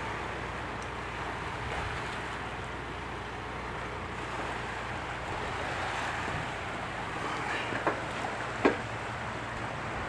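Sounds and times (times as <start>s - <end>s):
small waves on stony beach: 0.0s - 10.0s
wind: 0.0s - 10.0s.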